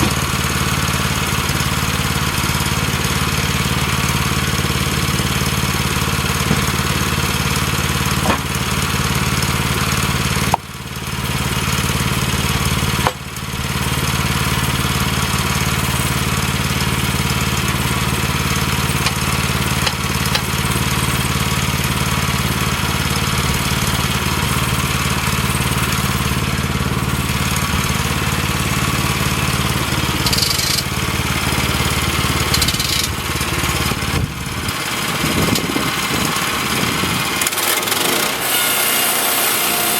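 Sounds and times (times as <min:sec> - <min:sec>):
gasoline engine running: 0:00.0 - 0:38.5.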